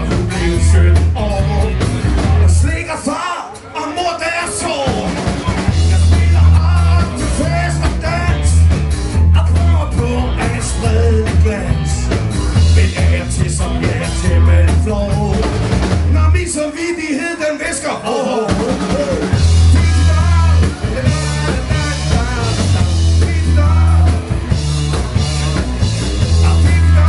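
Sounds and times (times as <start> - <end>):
person singing: 0.0 - 8.7, 9.3 - 24.6, 26.2 - 27.0
bass line: 0.0 - 27.0
live rock band playing: 0.0 - 27.0.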